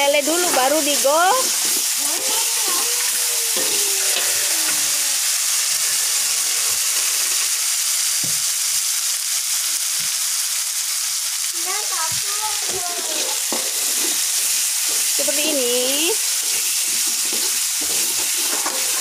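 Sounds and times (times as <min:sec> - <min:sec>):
spice paste sizzling in wok: 0:00.0 - 0:19.0.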